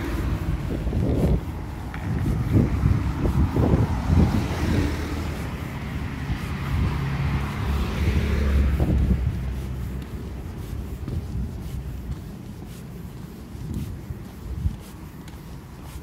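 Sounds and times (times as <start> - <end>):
car engine hum: 0.0 - 16.0
wind buffeting microphone: 0.0 - 16.0.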